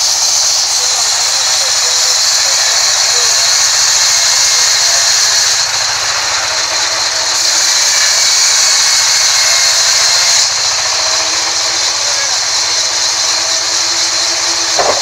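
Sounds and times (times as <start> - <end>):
band saw blade rasping through wood: 0.0 - 15.0.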